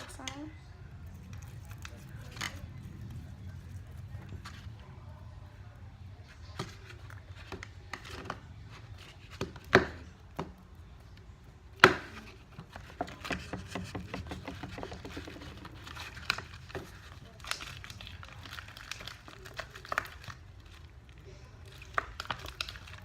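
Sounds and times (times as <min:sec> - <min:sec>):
slime clicking and crackling: 0:00.0 - 0:04.9, 0:06.5 - 0:23.0.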